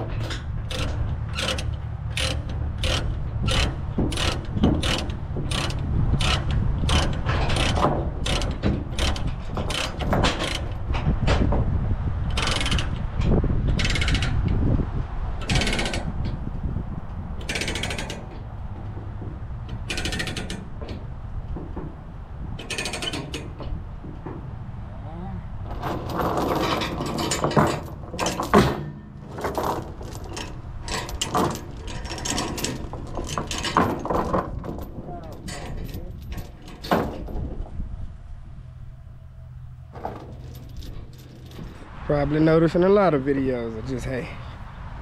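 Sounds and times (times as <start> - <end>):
low steady rumble: 0.0 - 45.0.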